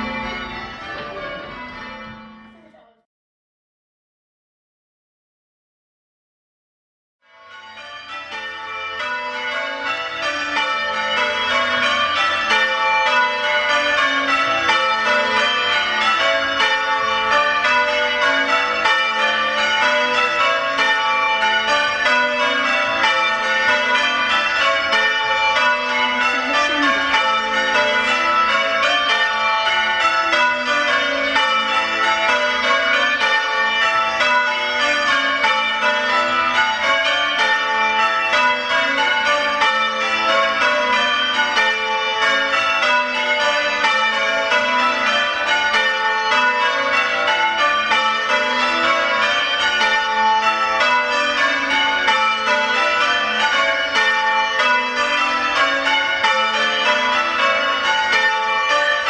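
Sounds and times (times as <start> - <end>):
church bells change ringing: 0.0 - 2.8, 7.3 - 59.0.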